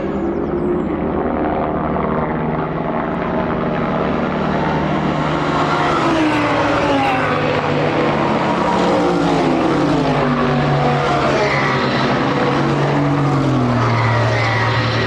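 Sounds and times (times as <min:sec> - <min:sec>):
race car engines passing: 0:02.6 - 0:15.0.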